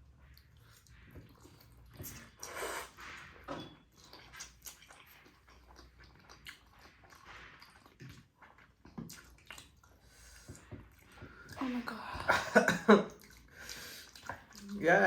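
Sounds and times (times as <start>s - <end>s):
chewing noodles with wet mouth clicks: 0.3s - 3.0s, 3.8s - 11.6s, 13.1s - 14.8s.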